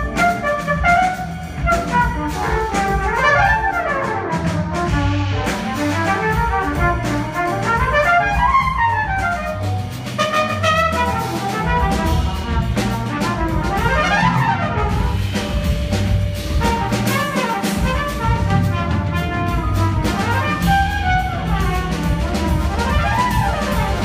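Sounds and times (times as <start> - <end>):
brass section: 0.0 - 24.0
drum and bass pulse: 0.0 - 24.0
jazz fusion band with orchestra: 0.0 - 24.0.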